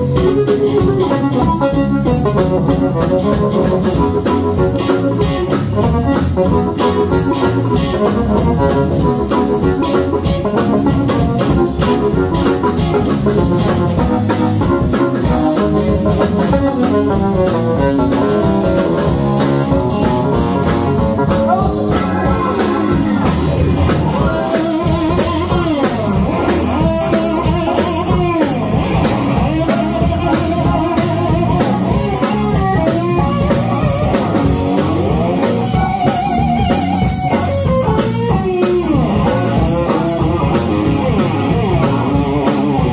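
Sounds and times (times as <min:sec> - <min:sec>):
blues band playing: 0:00.0 - 0:42.9
electric guitar with bent notes: 0:00.0 - 0:42.9
organ: 0:00.0 - 0:42.9.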